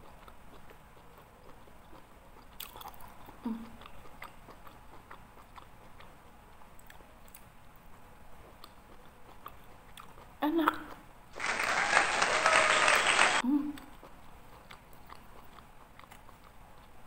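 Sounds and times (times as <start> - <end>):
person chewing with wet smacks: 0.0 - 11.0, 13.7 - 17.0.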